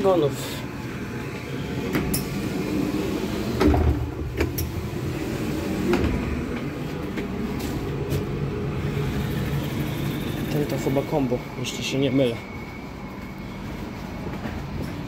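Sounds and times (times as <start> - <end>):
train coach rumble: 0.0 - 15.0.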